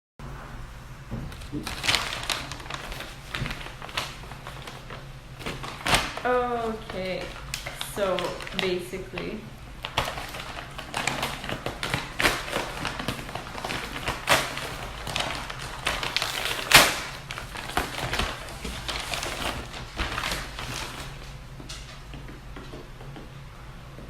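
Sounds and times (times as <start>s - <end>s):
package rustling and crinkling: 1.2s - 22.2s.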